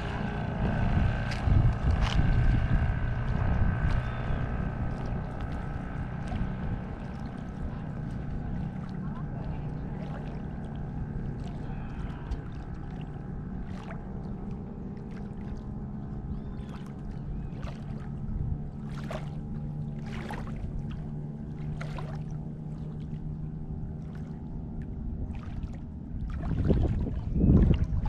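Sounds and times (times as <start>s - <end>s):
water splashing: 0.0s - 28.0s.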